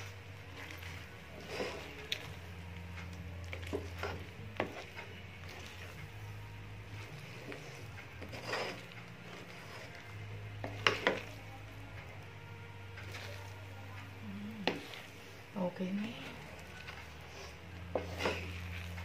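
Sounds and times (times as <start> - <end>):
utensil scraping metal pot: 0.0 - 11.7, 13.0 - 19.0.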